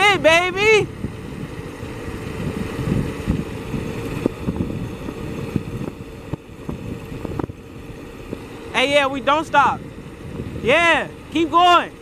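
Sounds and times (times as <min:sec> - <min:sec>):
bike tyre rumble on asphalt: 0:00.0 - 0:12.0
wind buffeting microphone: 0:00.0 - 0:12.0.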